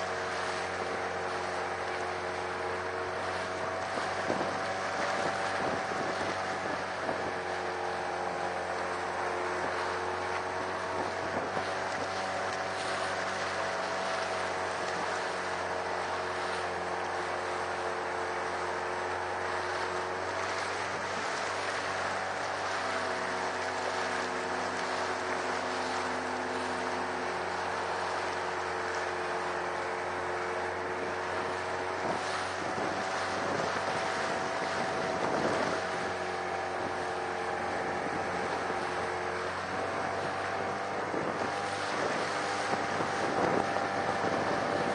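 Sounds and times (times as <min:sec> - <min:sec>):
motorboat engine running: 0:00.0 - 0:44.9
wind on microphone: 0:02.5 - 0:16.1, 0:20.1 - 0:44.9.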